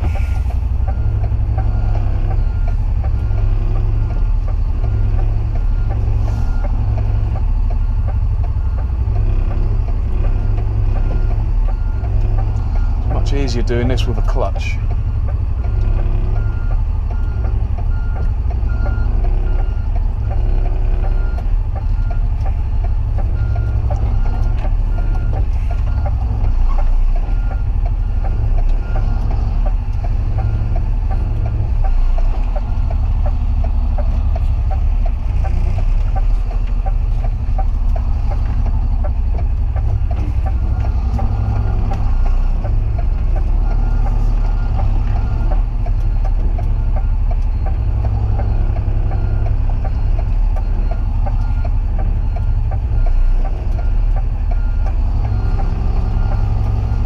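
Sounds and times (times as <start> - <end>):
truck engine rumble: 0.0 - 57.0
truck reversing alarm beeping: 0.0 - 57.0.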